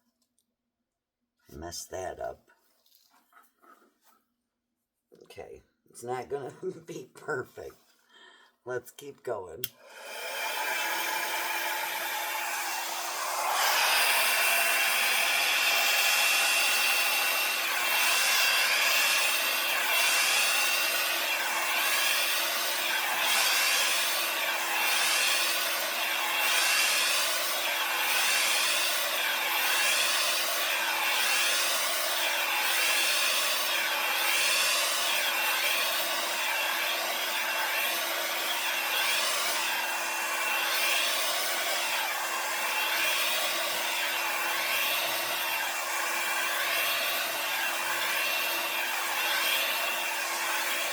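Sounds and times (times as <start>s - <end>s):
hair dryer running: 9.6s - 50.9s.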